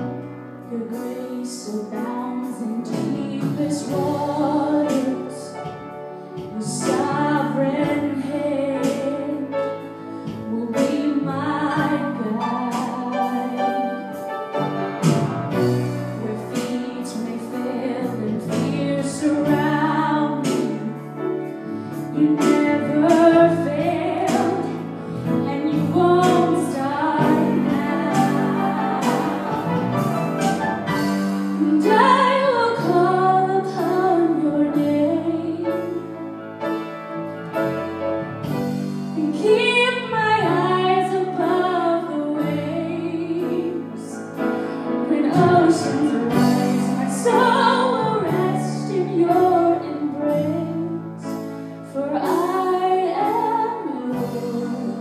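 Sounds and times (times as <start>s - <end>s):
piano accompaniment: 0.0s - 55.0s
woman singing: 0.6s - 5.8s, 6.4s - 9.7s, 10.3s - 14.2s, 16.0s - 21.1s, 22.0s - 29.8s, 31.4s - 36.1s, 39.2s - 44.4s, 45.0s - 55.0s.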